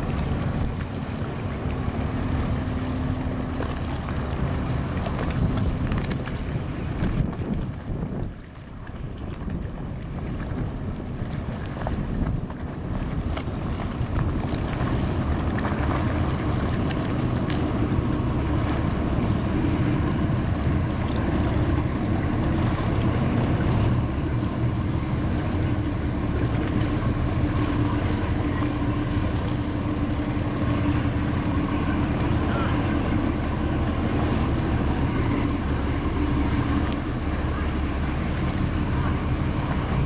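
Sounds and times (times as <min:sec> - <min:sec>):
boat engines low rumble: 0:00.0 - 0:40.0
water washing around hull: 0:00.0 - 0:40.0.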